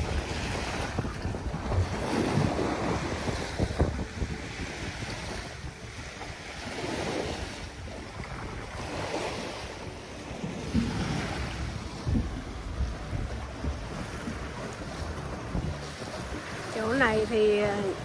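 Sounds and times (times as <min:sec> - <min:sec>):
small waves washing in: 0:00.0 - 0:18.0
wind rumbling on microphone: 0:00.0 - 0:18.0.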